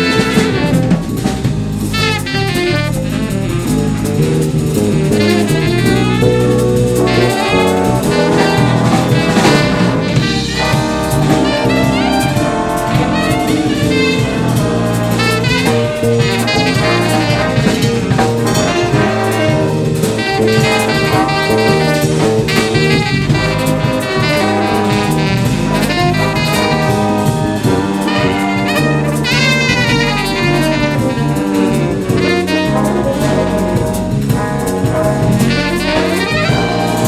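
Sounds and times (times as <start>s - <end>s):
big band jazz: 0.0s - 37.0s.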